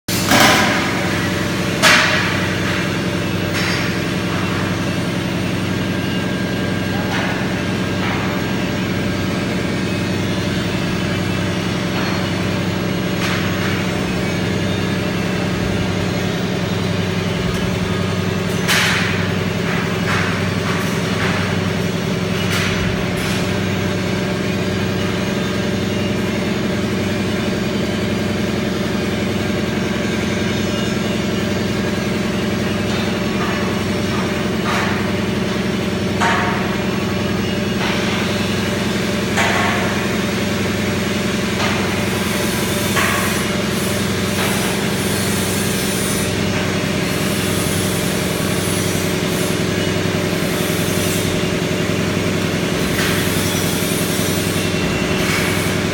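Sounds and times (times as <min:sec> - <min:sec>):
welding arc buzzing: 0:00.1 - 0:55.9.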